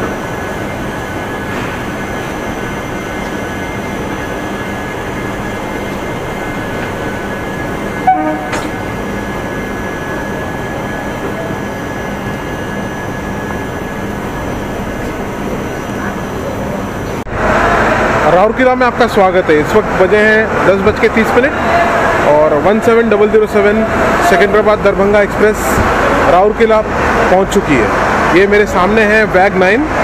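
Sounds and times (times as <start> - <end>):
train rolling rumble: 0.0 - 30.0.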